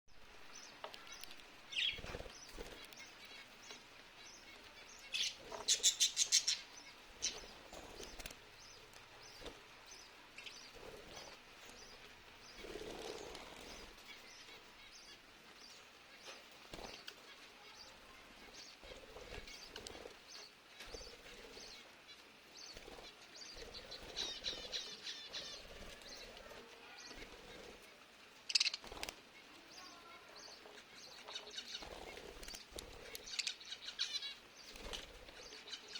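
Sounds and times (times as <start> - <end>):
lovebirds chirping: 0.2 - 35.9.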